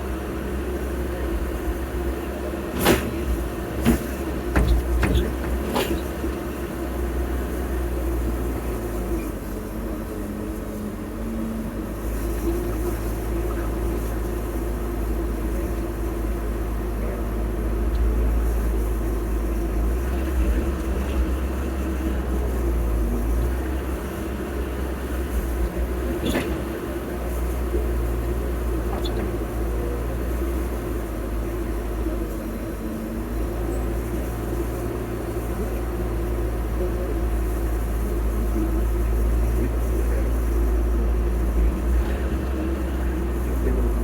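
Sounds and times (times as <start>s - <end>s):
heavy machine engine droning: 0.0s - 44.0s.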